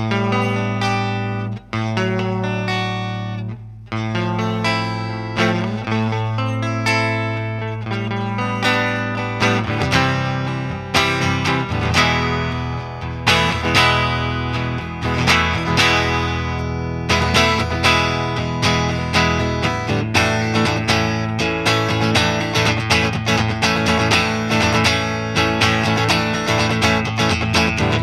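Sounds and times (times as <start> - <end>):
electric guitar chords ringing: 0.0 - 28.0.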